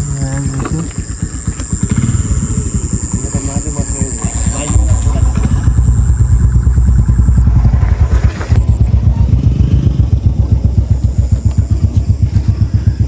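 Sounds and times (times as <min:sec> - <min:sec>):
engine running with rapid thumping: 0:00.0 - 0:13.0.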